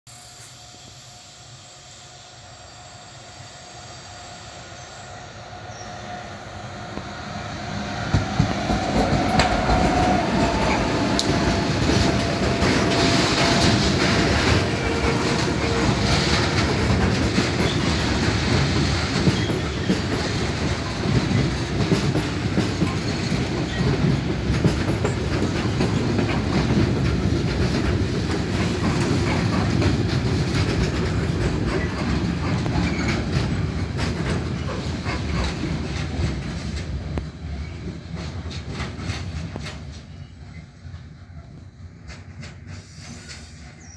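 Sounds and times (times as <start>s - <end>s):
diesel locomotive passing: 0.1s - 43.9s
train wheels clattering over rail joints: 7.7s - 43.9s.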